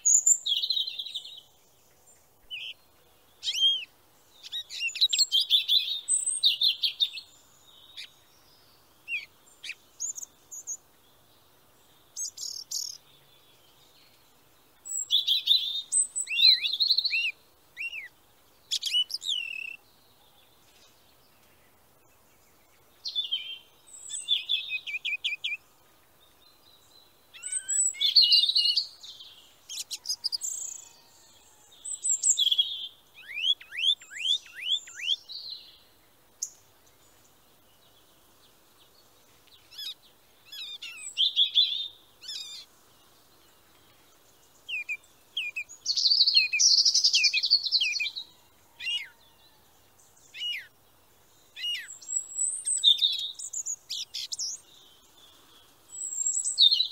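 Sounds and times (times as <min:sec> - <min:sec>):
birdsong chirps and trills: 0:00.0 - 0:56.9.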